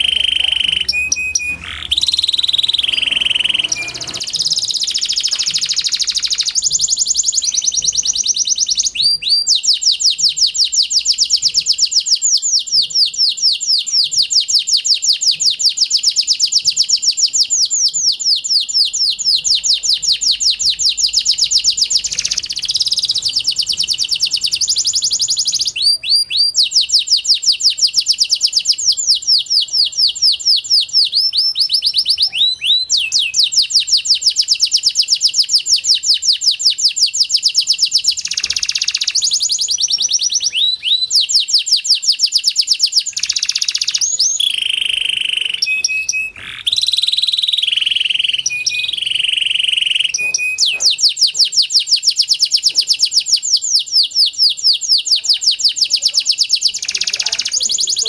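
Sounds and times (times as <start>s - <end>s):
canary slurred whistles: 0.0s - 58.0s
canary trilling: 0.0s - 58.0s.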